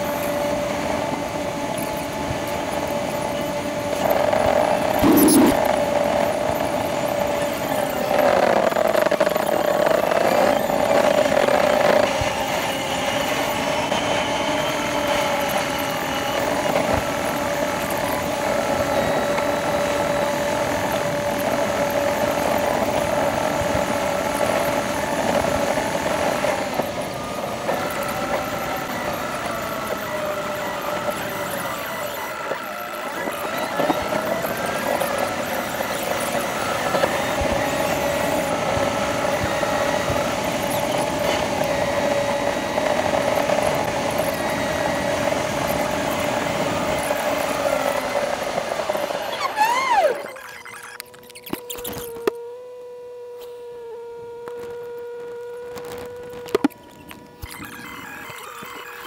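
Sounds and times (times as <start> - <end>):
sped-up engine whine: 0.0 - 59.0.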